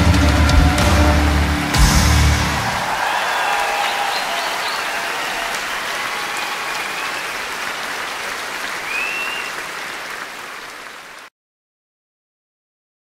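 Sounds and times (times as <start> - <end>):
audience applause: 0.0 - 11.3.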